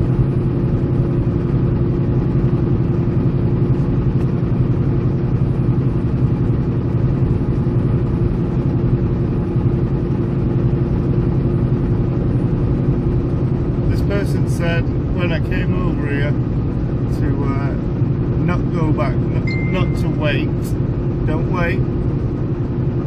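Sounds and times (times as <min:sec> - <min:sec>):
truck engine and road noise: 0:00.0 - 0:23.0.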